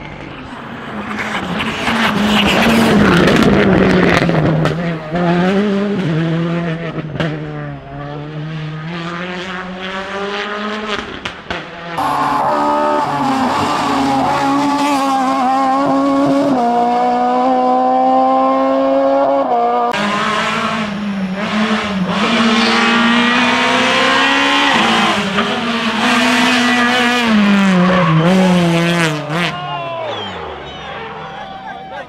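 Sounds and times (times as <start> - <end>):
rally car engines at high revs: 0.0 - 32.0.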